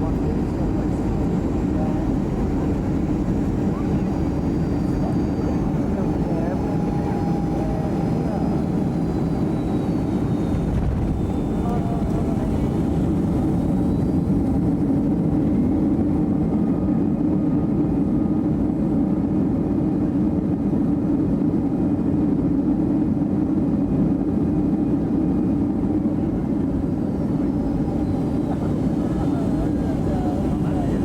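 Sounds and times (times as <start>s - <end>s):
airliner cabin engine rumble: 0.0s - 31.0s.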